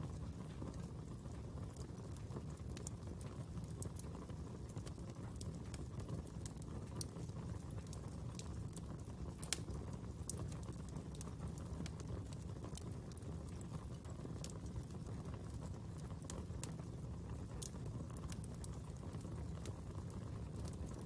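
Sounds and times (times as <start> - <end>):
fire crackling and popping: 0.0 - 21.0
fire flames rumbling: 0.0 - 21.0.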